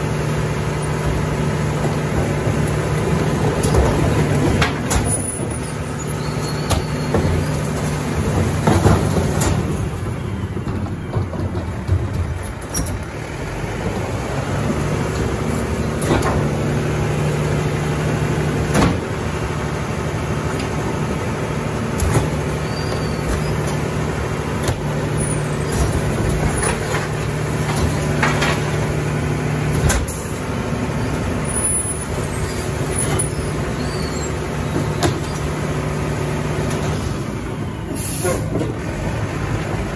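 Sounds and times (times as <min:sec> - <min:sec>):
garbage truck diesel engine running: 0:00.0 - 0:39.9.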